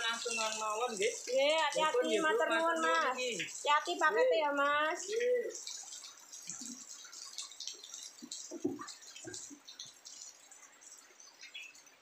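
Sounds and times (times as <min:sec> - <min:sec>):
faint water dripping: 0:00.0 - 0:12.0.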